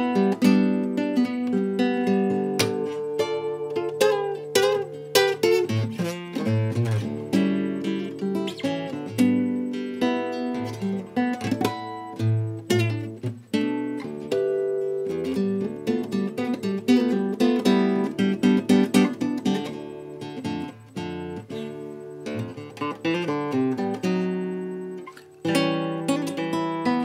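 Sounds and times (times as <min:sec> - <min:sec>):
acoustic guitar strumming and picking: 0:00.0 - 0:27.0.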